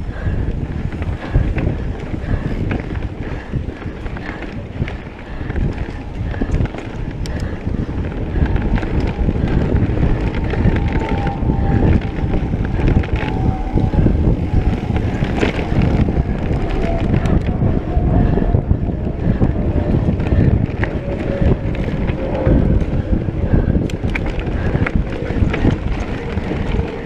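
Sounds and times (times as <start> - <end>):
bike rattling over bumpy trail: 0.0 - 27.0
wind buffeting microphone: 0.0 - 27.0.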